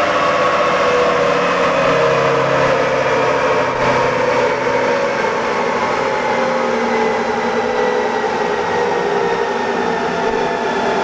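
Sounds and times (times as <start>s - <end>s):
dyno rollers whine: 0.0s - 11.0s
pickup engine on dyno: 0.0s - 11.0s.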